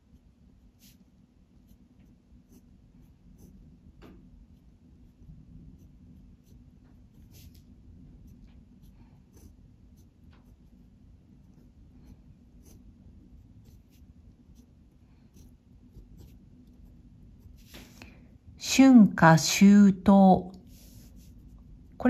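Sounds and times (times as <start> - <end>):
low background hum: 0.0 - 22.0
pen scratching on paper: 0.6 - 17.7, 20.6 - 22.0.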